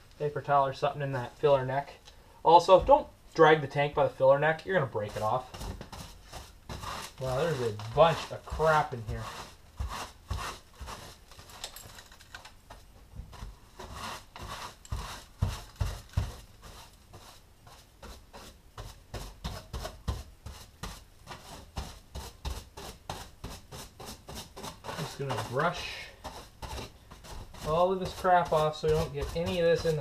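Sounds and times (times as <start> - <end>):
hand broom brushing metal: 3.6 - 11.5, 13.4 - 30.0.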